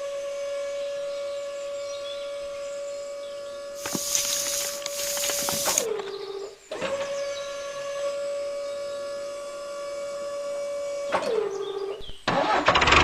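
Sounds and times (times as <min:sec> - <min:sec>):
small electric motor whining: 0:00.0 - 0:12.1.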